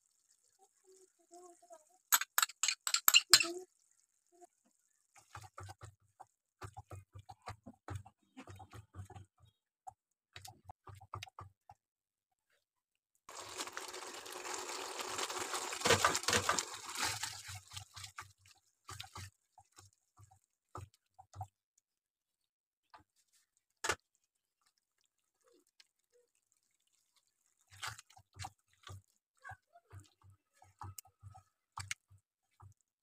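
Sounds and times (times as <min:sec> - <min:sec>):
gravy sizzling and bubbling: 0:00.0 - 0:11.7, 0:13.2 - 0:33.0
spatula stirring thick gravy: 0:03.8 - 0:11.6, 0:13.3 - 0:33.0.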